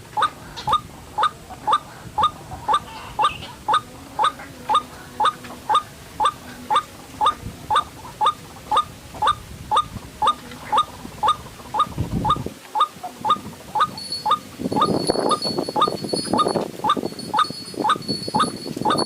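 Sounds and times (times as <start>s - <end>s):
waterhen calling: 0.0s - 19.0s.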